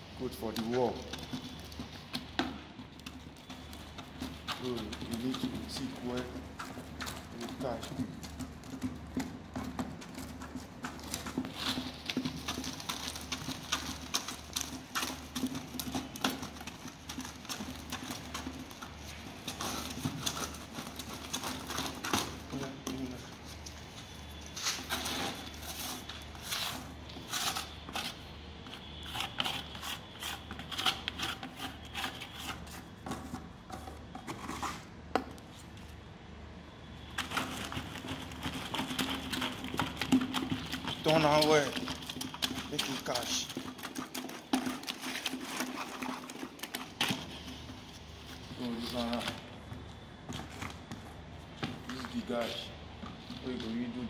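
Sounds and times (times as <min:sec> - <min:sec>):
stick stirring mix in plastic bucket: 0:00.0 - 0:54.0
knocks and scrapes against bucket: 0:00.2 - 0:35.4, 0:37.0 - 0:54.0.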